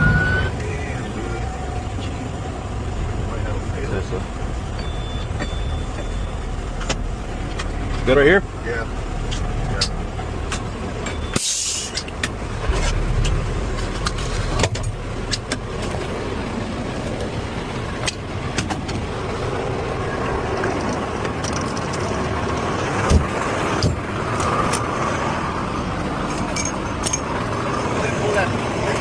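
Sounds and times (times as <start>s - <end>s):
fire engine running: 0.0s - 29.0s.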